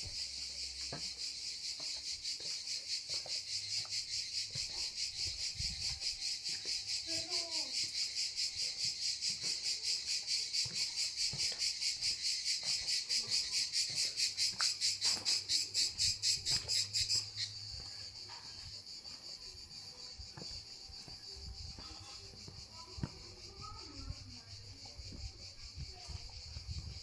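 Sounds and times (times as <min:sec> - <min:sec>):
distant insect hiss: 0:00.0 - 0:27.0
insect singing pulsing song: 0:00.0 - 0:27.0.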